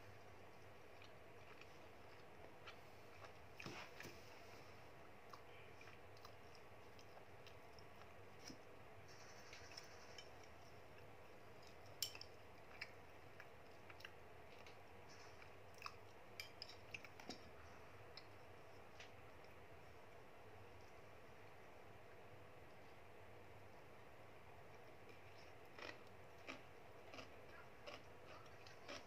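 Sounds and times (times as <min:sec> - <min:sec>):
low steady hiss: 0:00.0 - 0:28.9.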